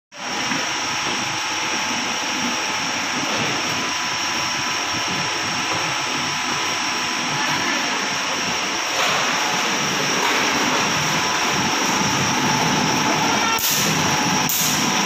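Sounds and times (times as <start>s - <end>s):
high whine: 0.2s - 15.0s
machinery drone: 0.2s - 15.0s.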